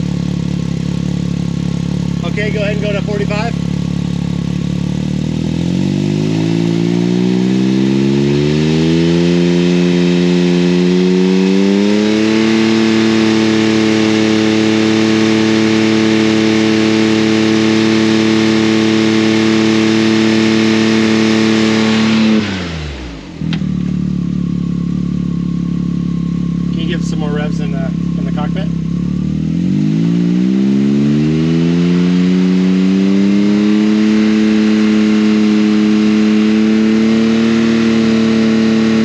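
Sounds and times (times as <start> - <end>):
engine revving: 0.0 - 39.0.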